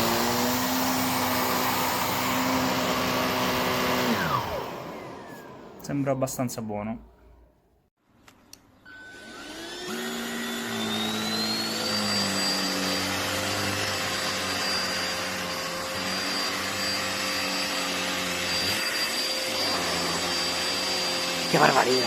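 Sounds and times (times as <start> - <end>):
vacuum motor whining: 0.0 - 5.9, 8.9 - 22.0.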